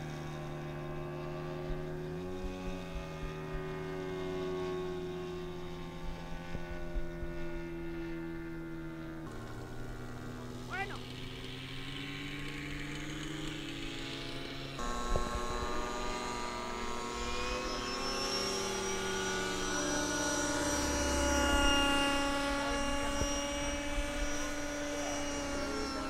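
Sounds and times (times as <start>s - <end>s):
model aircraft engine buzzing: 0.0s - 26.0s.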